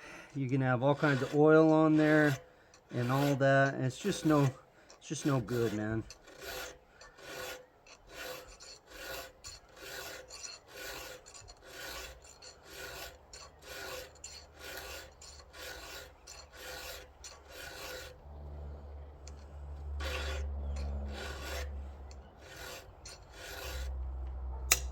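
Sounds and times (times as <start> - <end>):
file rasping on chainsaw chain: 0.0 - 24.9.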